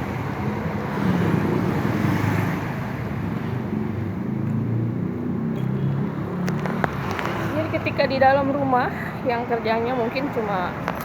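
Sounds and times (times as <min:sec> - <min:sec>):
low rumble of vehicles: 0:00.0 - 0:11.0.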